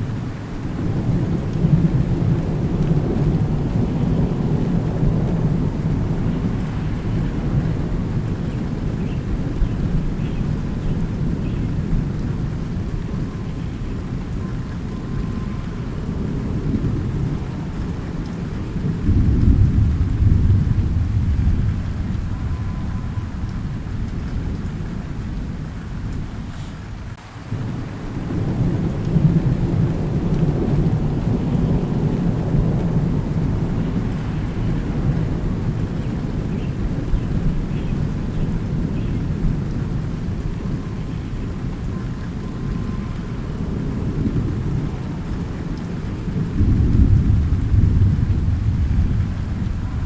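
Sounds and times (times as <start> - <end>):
rolling thunder: 0.0 - 50.0
steady rain: 0.0 - 50.0.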